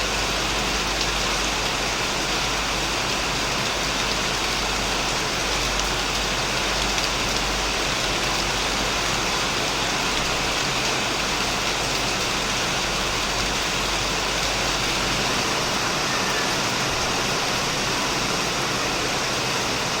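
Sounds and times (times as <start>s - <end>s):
heavy rain on a shed roof: 0.0s - 20.0s.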